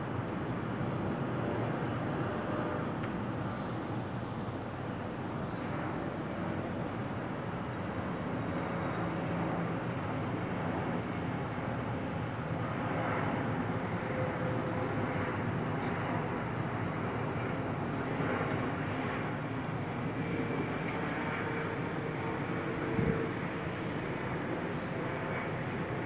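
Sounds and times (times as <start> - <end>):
distant jet airliner rumble: 0.5 - 26.0.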